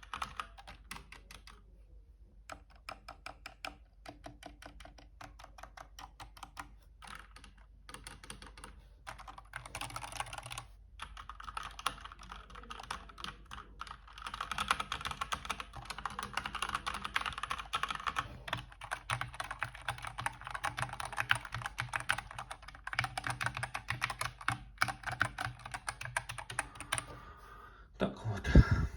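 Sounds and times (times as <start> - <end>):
mechanical keyboard clicks: 2.5 - 27.0.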